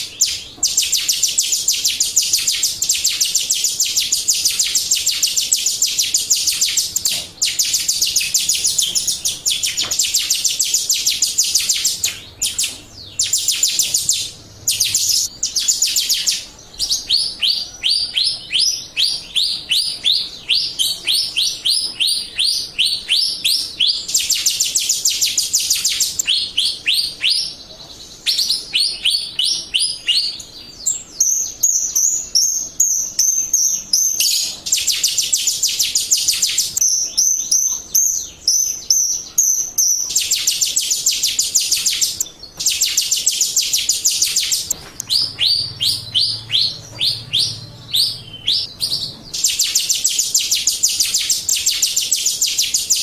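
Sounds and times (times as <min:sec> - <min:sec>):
starling trilling: 0:00.0 - 0:27.6, 0:31.2 - 0:53.0.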